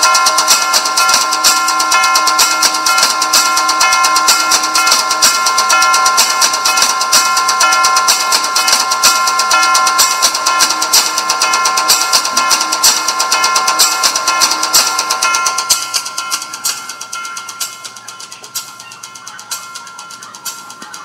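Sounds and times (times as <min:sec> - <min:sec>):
fast drumming music: 0:00.0 - 0:21.0.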